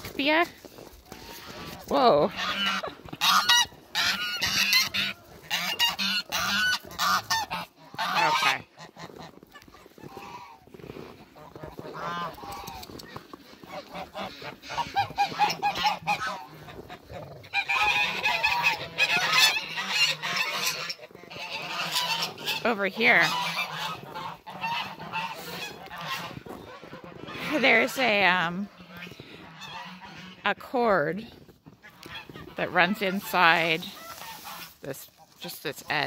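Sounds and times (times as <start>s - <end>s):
geese honking: 1.1s - 31.0s, 31.8s - 36.0s.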